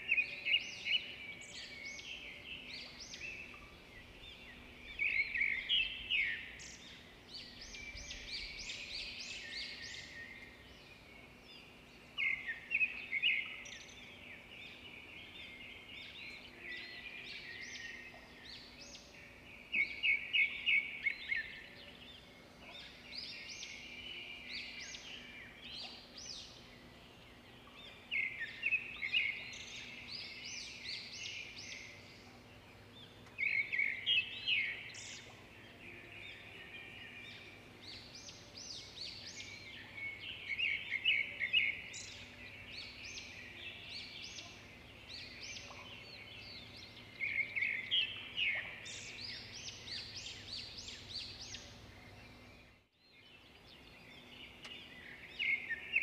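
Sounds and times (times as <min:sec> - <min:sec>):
songbird chirps and trills: 0:00.0 - 0:56.0.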